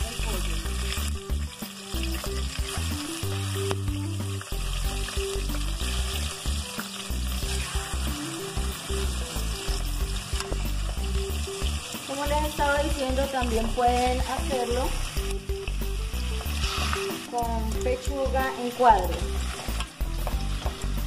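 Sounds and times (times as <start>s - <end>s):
background music with bass line: 0.0s - 21.0s
chicken sizzling in hot oil: 0.0s - 21.0s.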